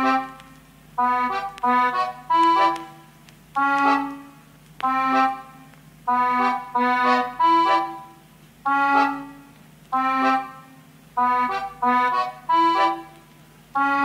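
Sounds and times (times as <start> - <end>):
slow melody of held notes: 0.0 - 14.0.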